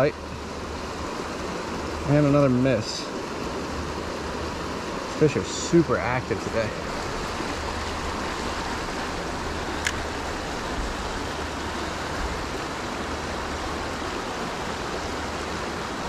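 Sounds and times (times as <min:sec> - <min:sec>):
creek water running over rocks: 0:00.0 - 0:16.0.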